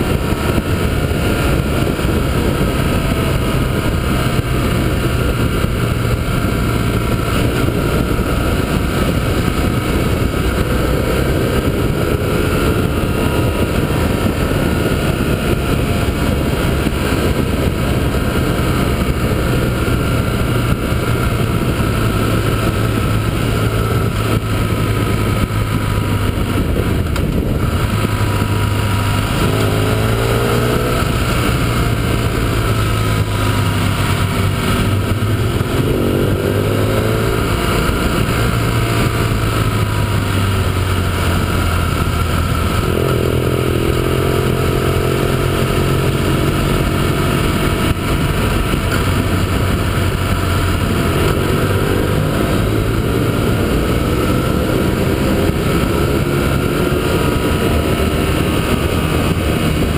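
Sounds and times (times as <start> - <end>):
motorcycle engine cruising: 0.0 - 59.9
wind rush on camera: 0.0 - 59.9.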